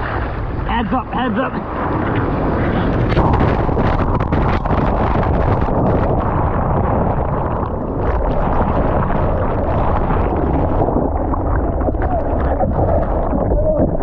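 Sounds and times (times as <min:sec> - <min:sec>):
ocean surf: 0:00.0 - 0:14.0
sloshing water: 0:00.0 - 0:14.0
wind rumble on microphone: 0:00.0 - 0:14.0.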